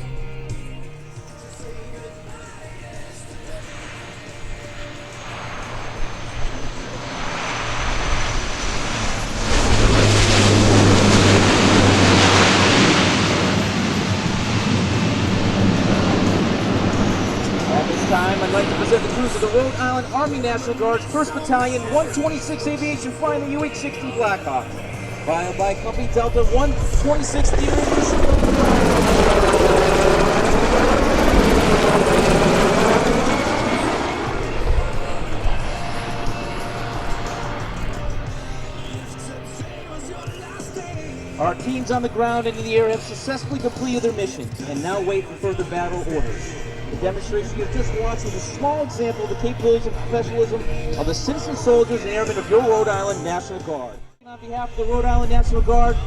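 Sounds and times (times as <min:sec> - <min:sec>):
steady low hum: 0:00.0 - 0:52.5
helicopters flying past: 0:00.0 - 0:54.1
military aircraft passing overhead: 0:00.0 - 0:56.0.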